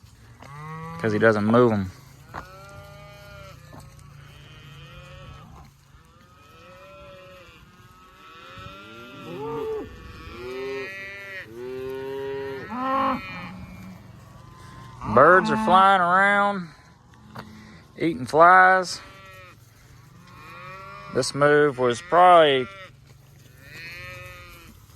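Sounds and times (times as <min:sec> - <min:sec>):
cattle mooing and bawling: 0:00.4 - 0:24.9.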